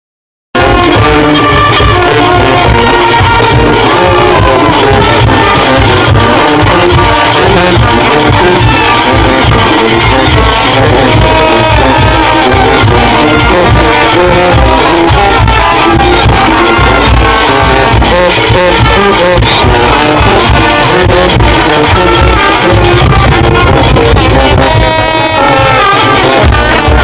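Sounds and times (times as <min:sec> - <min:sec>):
barrel drums beating: 0:00.6 - 0:27.0
brass section playing: 0:00.6 - 0:27.0.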